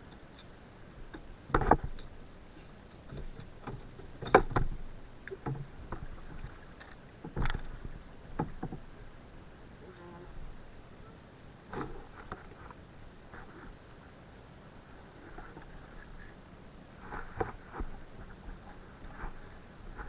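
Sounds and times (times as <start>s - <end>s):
kayak paddle strokes: 0.1s - 9.3s, 11.6s - 14.1s, 14.8s - 20.0s.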